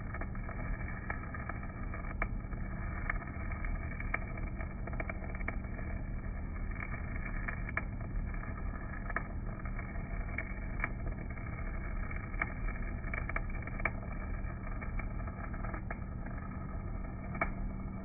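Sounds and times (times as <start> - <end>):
welding arc crackling and popping: 0.0 - 18.0
welding machine low drone: 0.0 - 18.0.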